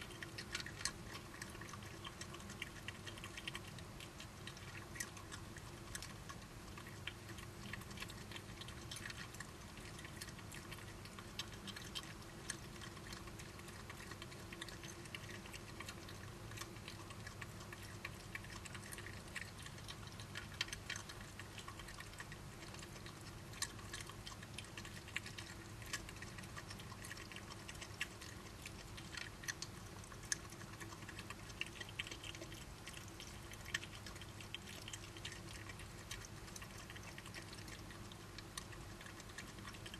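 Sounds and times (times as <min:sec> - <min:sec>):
animals chewing food: 0:00.0 - 0:39.9
steady low hum: 0:00.0 - 0:39.9.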